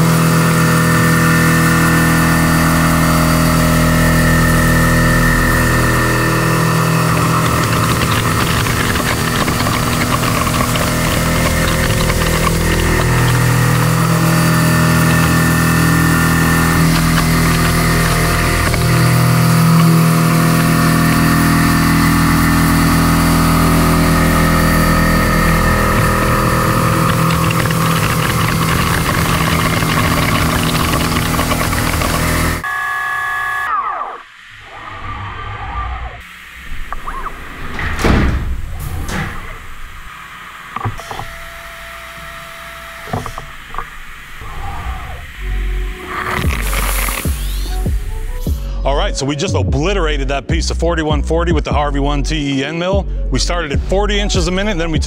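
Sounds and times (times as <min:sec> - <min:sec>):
milling machine cutting steel hum: 0:00.0 - 0:48.4.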